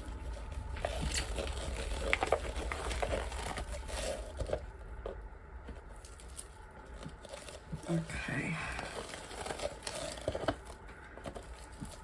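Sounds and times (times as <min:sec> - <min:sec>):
rustling: 0:00.0 - 0:12.0
steady low hum: 0:00.0 - 0:12.0.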